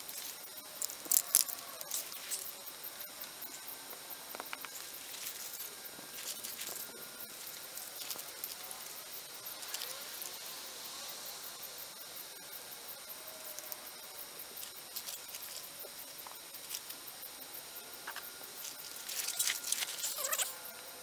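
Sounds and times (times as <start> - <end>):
high-pitched insect calls: 0.0 - 21.0.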